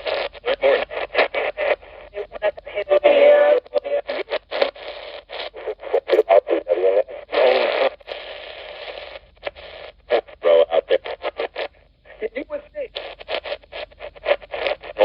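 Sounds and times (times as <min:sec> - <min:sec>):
radio static hiss: 0:00.0 - 0:15.0
radio voices: 0:00.0 - 0:15.0.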